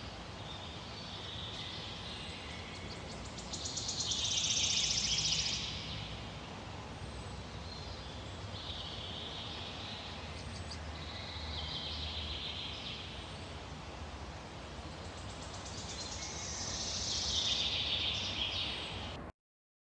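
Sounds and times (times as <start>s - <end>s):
low background noise: 0.0s - 19.3s.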